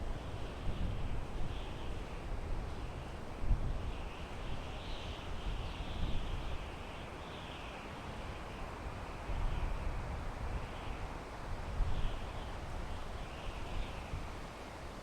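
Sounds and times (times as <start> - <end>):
wind blowing through pine trees: 0.0 - 15.0.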